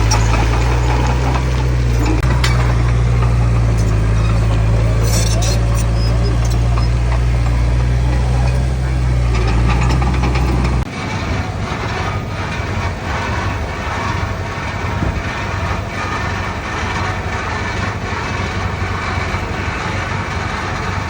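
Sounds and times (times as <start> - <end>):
bulldozer diesel engine running: 0.0 - 21.0
rattling and clanking clatter: 0.0 - 21.0.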